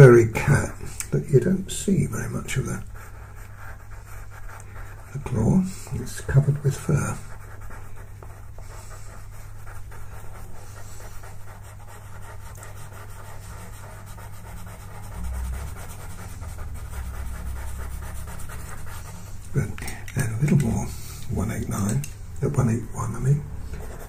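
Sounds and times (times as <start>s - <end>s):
low electrical hum: 0.0s - 24.0s
pencil scratching on paper: 0.0s - 24.0s.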